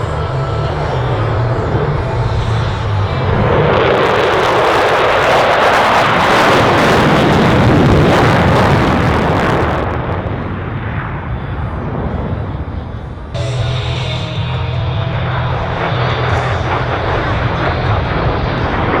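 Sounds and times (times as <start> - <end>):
fighter jet roar passing: 0.0 - 19.0.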